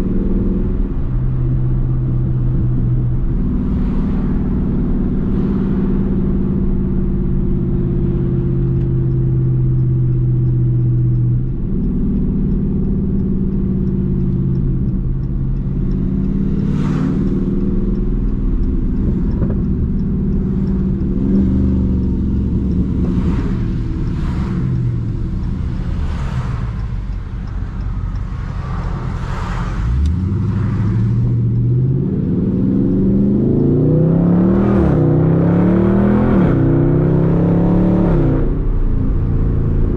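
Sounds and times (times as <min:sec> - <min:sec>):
car engine cruising: 0:00.0 - 0:39.9.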